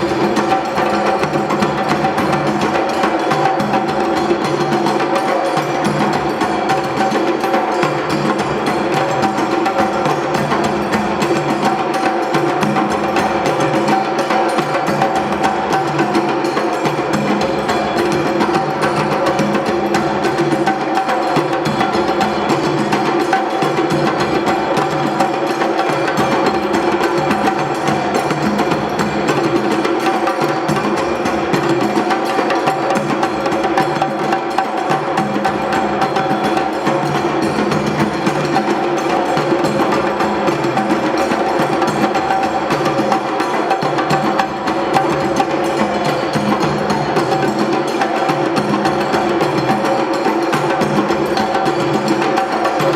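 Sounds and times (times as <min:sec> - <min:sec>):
drumming ensemble: 0:00.0 - 0:52.9.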